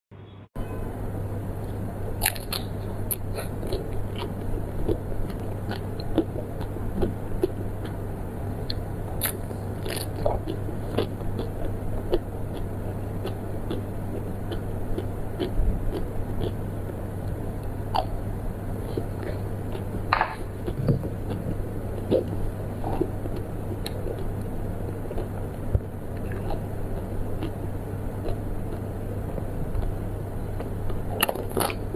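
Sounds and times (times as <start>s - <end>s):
steady low hum: 0.1s - 31.9s
person chewing crunchy food: 1.5s - 31.9s.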